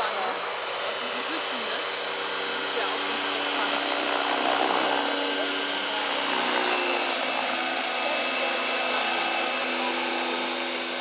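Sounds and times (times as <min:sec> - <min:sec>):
model helicopter rotor whine: 0:00.0 - 0:11.0.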